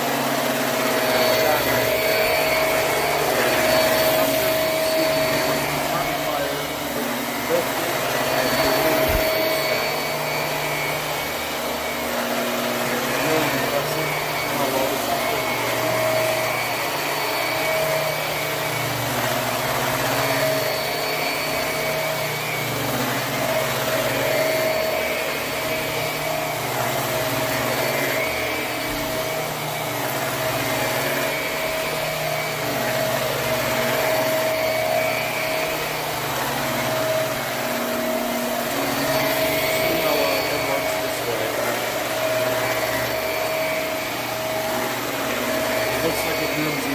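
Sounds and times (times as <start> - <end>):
vacuum cleaner on carpet: 0.0 - 46.9.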